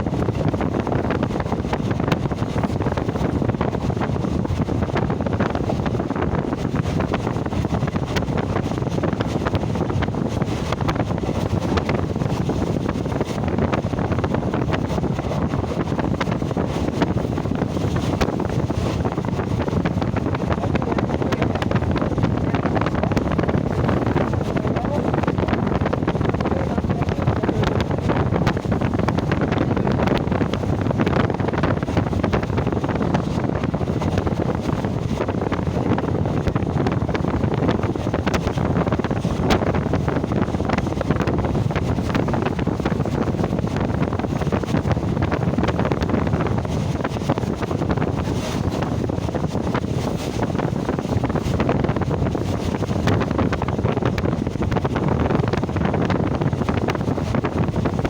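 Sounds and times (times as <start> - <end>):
train rumbling and rattling: 0.0 - 58.0
wind rushing over microphone: 0.0 - 58.0.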